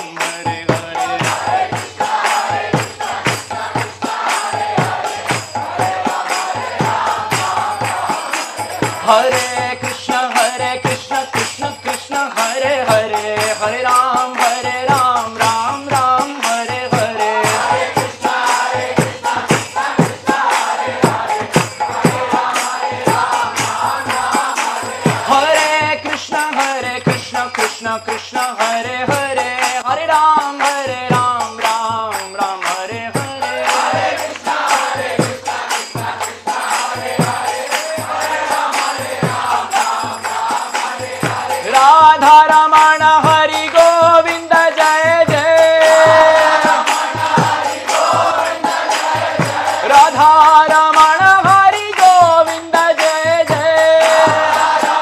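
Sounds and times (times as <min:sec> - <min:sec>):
drum strokes: 0:00.0 - 0:29.6, 0:31.0 - 0:55.0
jingling percussion: 0:00.0 - 0:55.0
man singing devotional song: 0:00.0 - 0:55.0.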